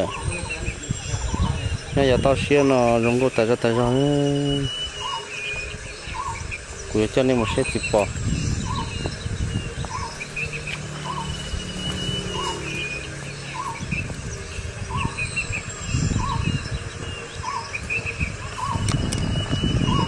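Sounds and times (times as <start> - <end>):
high bird chirps: 0.0 - 20.0
low rumbling on microphone: 0.0 - 20.0.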